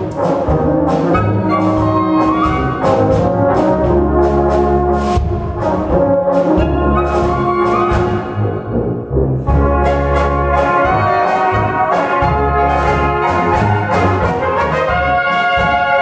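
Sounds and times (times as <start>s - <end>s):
drums keeping a steady beat: 0.0s - 8.5s, 9.5s - 16.0s
brass band playing a polka: 0.0s - 16.0s
clarinet: 0.0s - 16.0s
trumpets: 0.0s - 16.0s
tubas and baritone horns: 0.0s - 16.0s.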